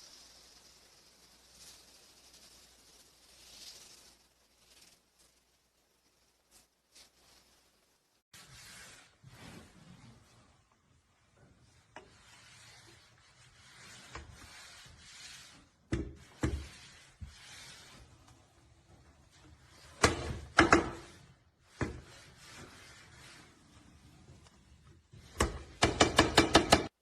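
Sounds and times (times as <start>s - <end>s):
soft rubbing and scraping: 0.0s - 25.4s.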